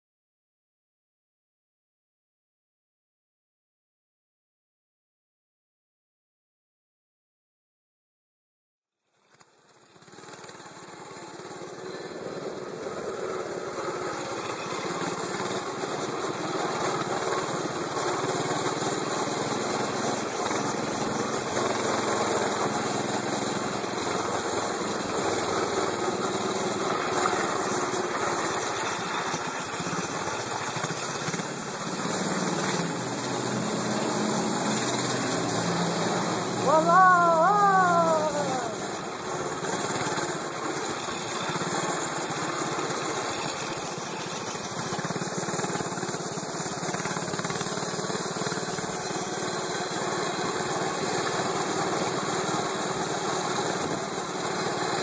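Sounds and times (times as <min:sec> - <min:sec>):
small engines running: 0:09.1 - 0:55.0.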